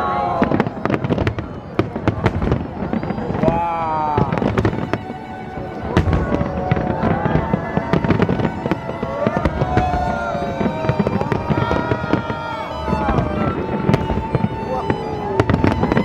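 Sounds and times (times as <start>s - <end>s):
classical violin music: 0.0s - 16.0s
fireworks bangs and crackling: 0.0s - 16.0s.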